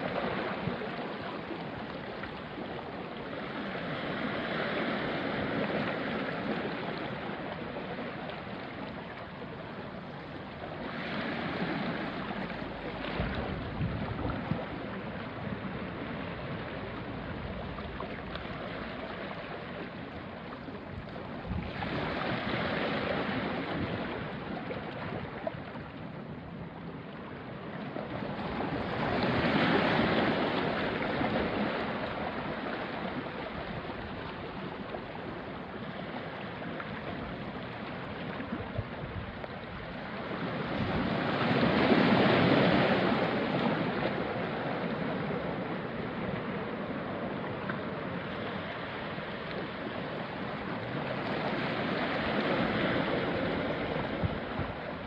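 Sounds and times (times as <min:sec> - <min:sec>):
water surging over rocks: 0:00.0 - 0:55.0
waves washing onto rocky shore: 0:00.0 - 0:55.0.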